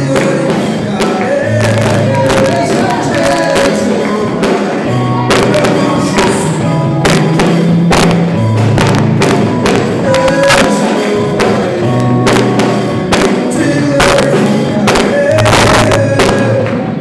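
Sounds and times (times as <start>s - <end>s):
gospel singing: 0.0s - 17.0s
held bass notes: 0.0s - 17.0s
percussion hits: 0.0s - 17.0s.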